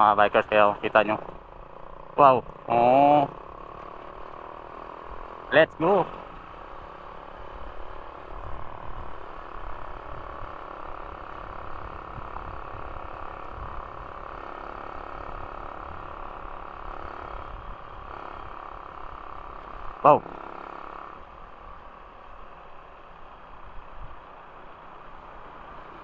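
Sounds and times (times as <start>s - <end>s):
motorcycle engine rumbling: 0.0s - 26.0s
road and wind noise: 0.0s - 26.0s.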